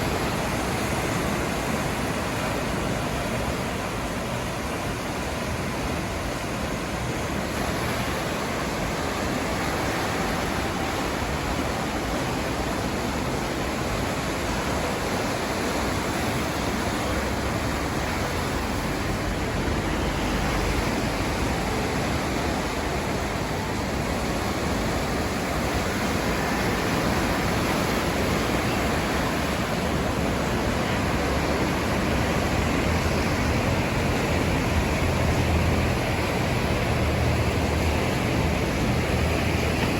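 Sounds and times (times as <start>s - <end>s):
sea surf rushing: 0.0s - 39.9s
wind: 0.0s - 39.9s.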